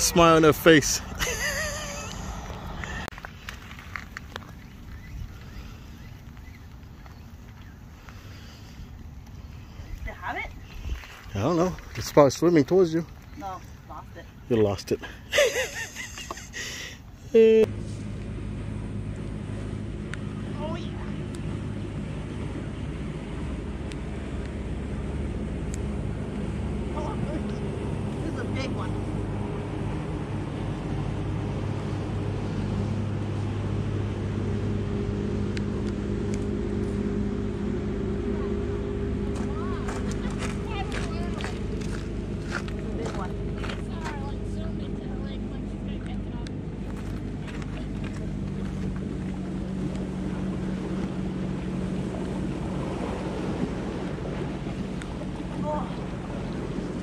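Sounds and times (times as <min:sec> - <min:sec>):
motorboat engine drone: 0:00.0 - 0:57.0.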